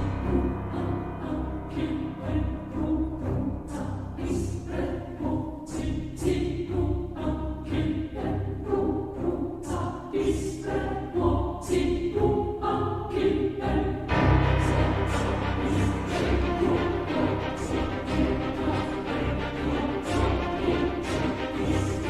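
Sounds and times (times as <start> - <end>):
orchestral music with choir: 0.0 - 22.0.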